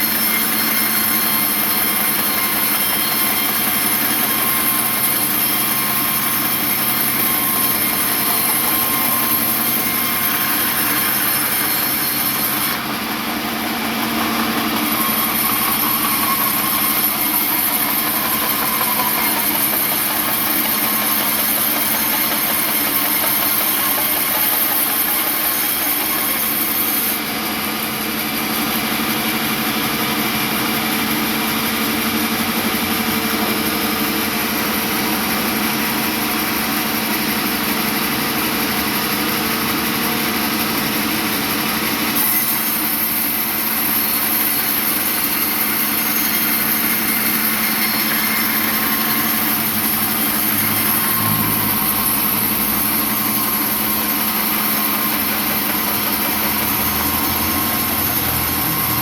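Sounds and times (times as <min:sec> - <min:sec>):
sawmill machinery hum and hiss: 0:00.0 - 0:59.0.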